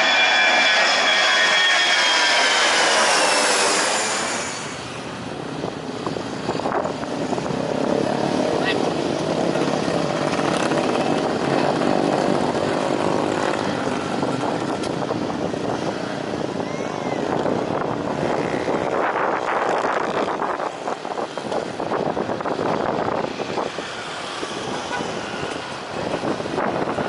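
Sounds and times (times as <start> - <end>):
aircraft engines droning: 0.0 - 25.9.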